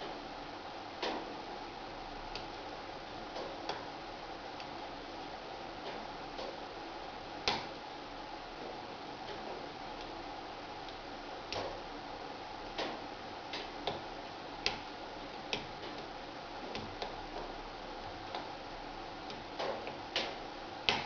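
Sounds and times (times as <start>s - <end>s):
wood fire crackling: 0.9s - 21.0s.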